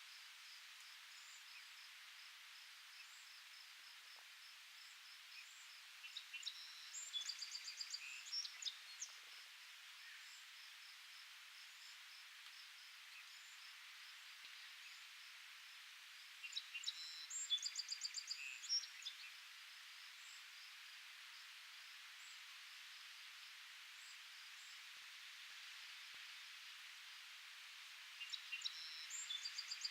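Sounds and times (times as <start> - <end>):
faint high hiss: 0.0 - 29.9.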